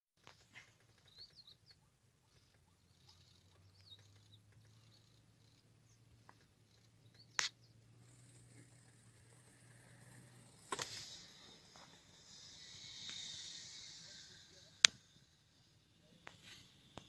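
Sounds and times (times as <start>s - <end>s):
faint bird chirps: 0.2s - 17.0s.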